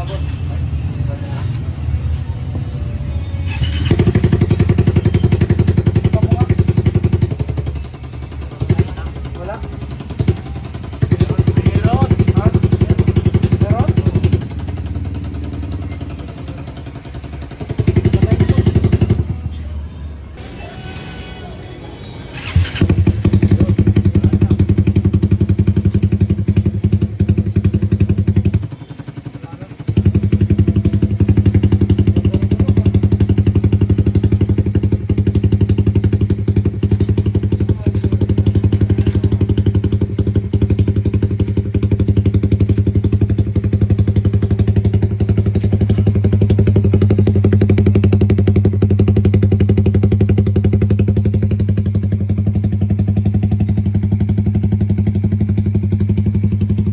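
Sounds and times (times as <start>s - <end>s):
motorcycle engine idling: 0.0s - 20.4s, 22.3s - 56.9s.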